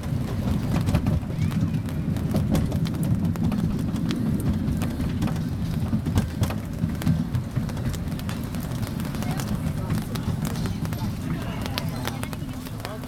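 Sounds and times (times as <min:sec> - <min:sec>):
small train rumbling: 0:00.0 - 0:13.0.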